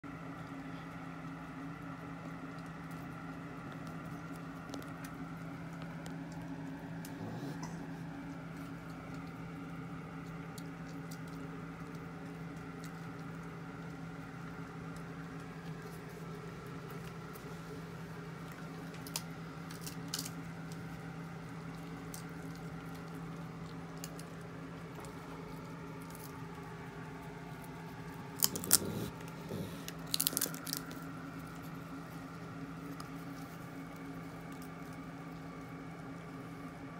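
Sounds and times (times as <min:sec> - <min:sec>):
steady low hum: 0:00.0 - 0:36.9
raccoons crunching peanut shells: 0:00.2 - 0:36.9.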